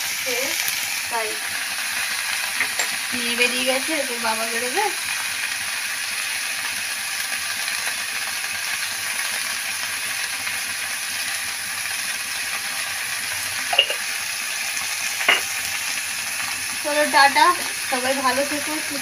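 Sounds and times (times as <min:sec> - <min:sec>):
greens sizzling in oil: 0:00.0 - 0:19.0.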